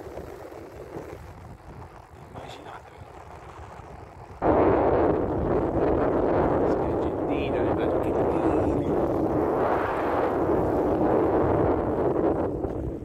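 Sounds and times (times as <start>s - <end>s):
wind rumble on microphone: 0.0s - 13.0s
loud steady rushing noise: 2.1s - 13.0s.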